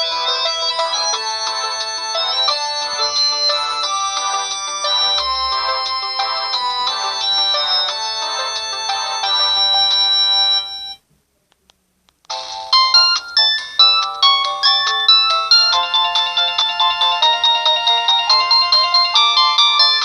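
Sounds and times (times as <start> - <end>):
phone ringtone melody: 0.0 - 11.0, 12.3 - 20.0.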